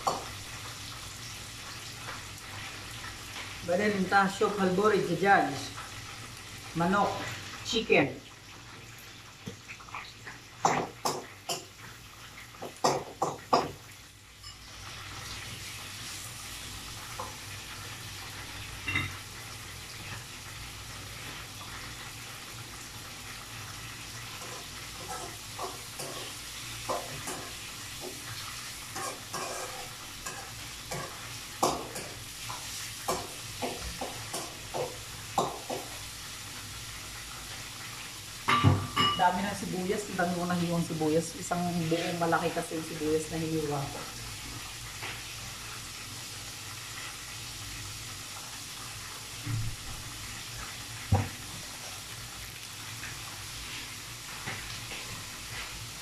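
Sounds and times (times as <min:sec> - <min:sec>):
chicken sizzling in oil: 0:00.0 - 0:56.0.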